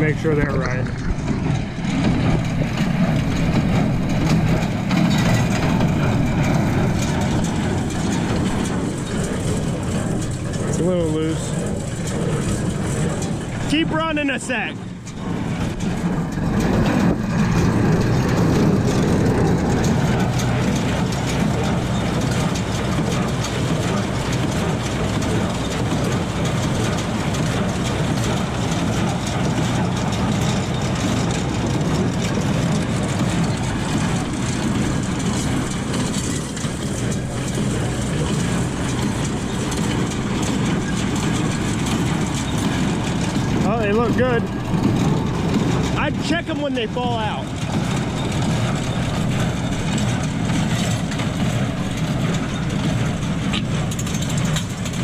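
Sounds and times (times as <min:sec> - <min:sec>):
hay baler running: 0:00.0 - 0:55.0
tractor engine droning: 0:00.0 - 0:55.0.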